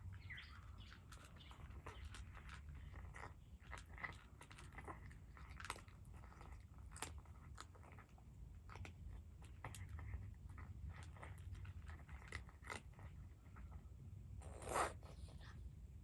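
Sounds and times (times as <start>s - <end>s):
cat chewing crunches: 0.0s - 15.3s.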